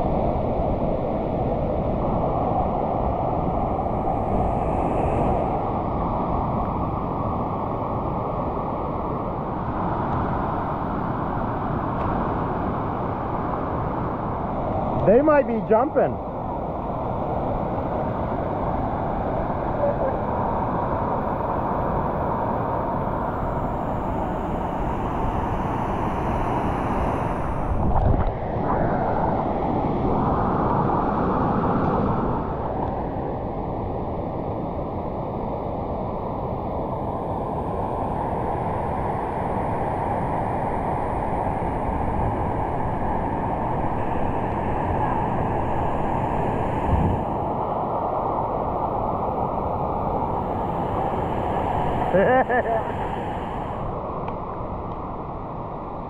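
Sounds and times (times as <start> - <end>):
muffled rushing water: 0.0 - 56.0.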